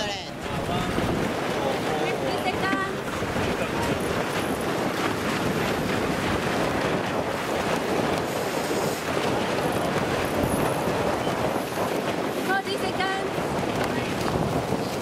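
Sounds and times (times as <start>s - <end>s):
choppy waves: 0.0s - 15.0s
wind on microphone: 0.0s - 15.0s.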